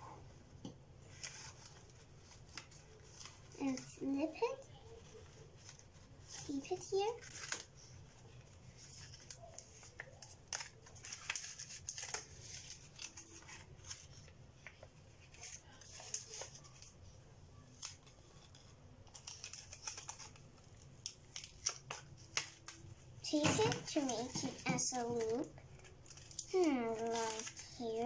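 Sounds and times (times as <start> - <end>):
paper rustling and clicking: 1.1 - 17.0, 17.7 - 28.0.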